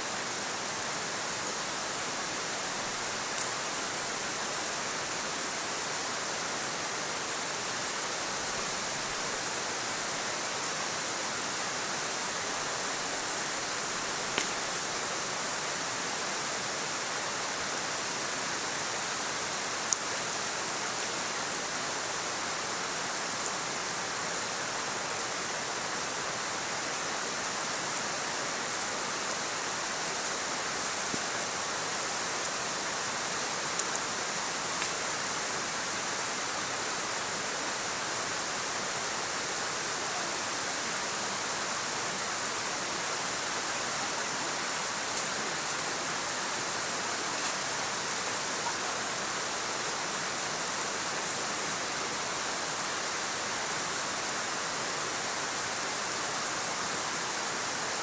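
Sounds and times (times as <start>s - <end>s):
steady rushing hiss: 0.0s - 58.0s.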